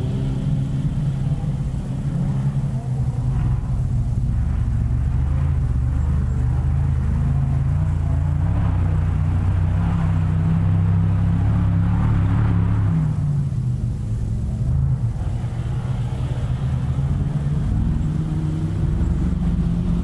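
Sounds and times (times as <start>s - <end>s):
race car engine running: 0.0s - 20.0s.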